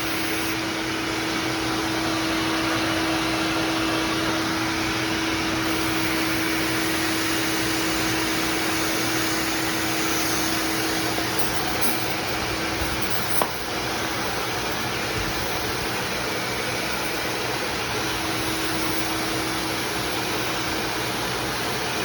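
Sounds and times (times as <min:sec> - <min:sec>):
shop vac running: 0:00.0 - 0:22.0.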